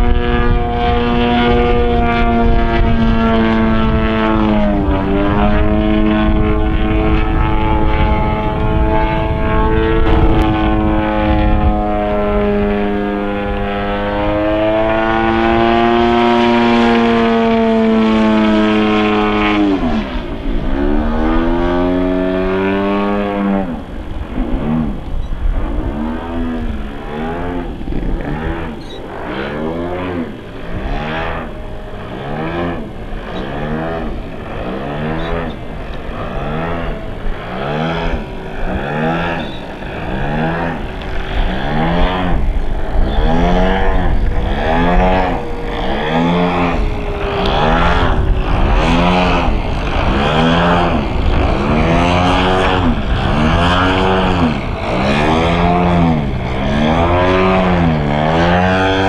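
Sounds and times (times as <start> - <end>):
model plane engine rising and falling: 0.0 - 59.0.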